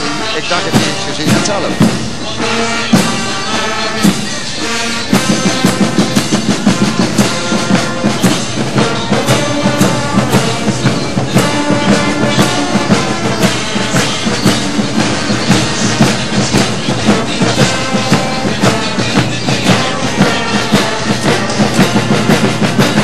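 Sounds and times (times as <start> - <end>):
brass band playing march: 0.0 - 23.0.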